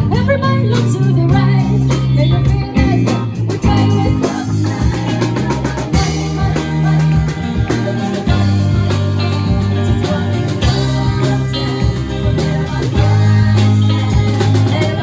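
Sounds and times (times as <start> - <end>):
live band playing pop song: 0.0 - 15.0
person singing: 0.0 - 15.0.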